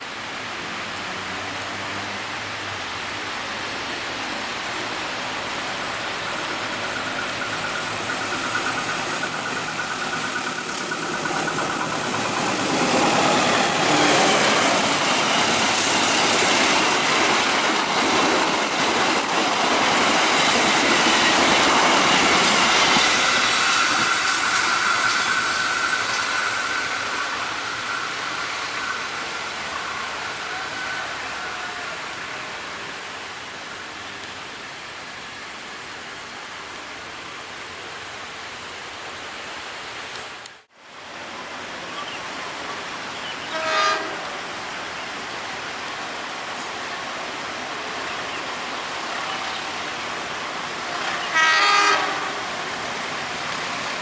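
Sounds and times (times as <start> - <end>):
train passing: 0.0 - 40.2, 40.9 - 54.0.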